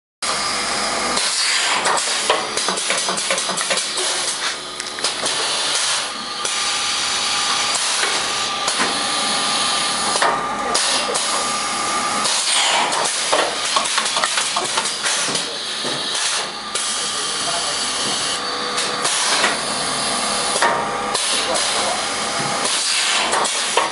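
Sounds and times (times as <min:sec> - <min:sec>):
compressed air hissing: 0:01.2 - 0:11.6, 0:12.2 - 0:22.0, 0:22.6 - 0:23.8.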